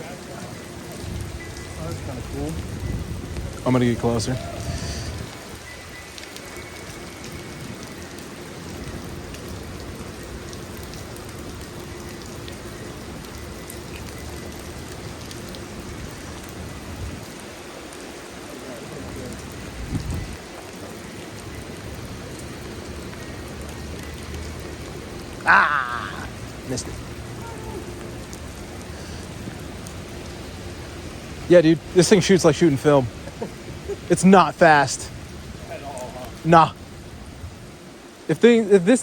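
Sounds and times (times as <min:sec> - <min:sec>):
rain splashing on street: 0:00.0 - 0:39.0.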